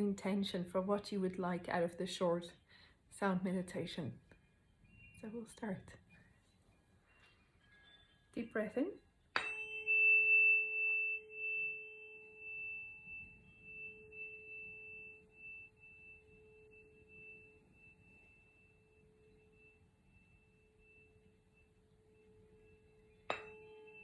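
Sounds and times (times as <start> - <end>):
tuning fork ringing: 4.2 - 24.0.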